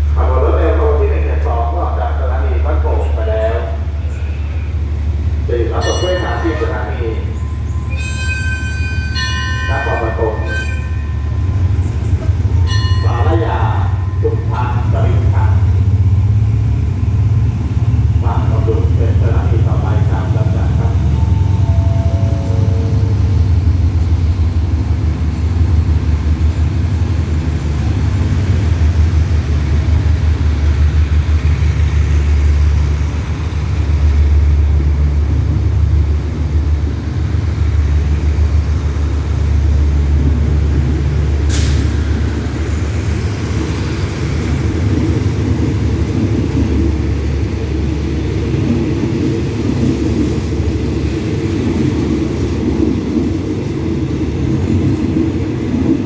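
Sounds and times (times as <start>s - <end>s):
locomotive engine rumbling: 0.0s - 56.0s.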